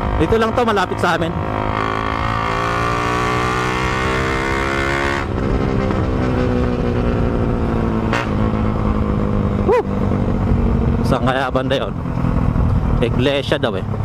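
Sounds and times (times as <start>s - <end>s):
motorcycle engine running loud: 0.0s - 14.0s.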